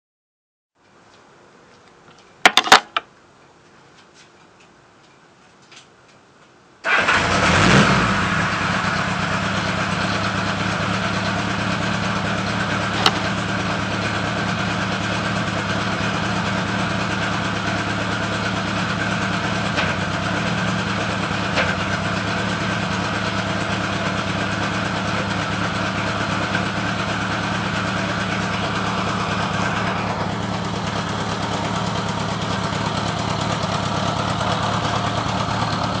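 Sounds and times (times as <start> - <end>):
motorcycle engine starting and idling: 6.8 - 36.0.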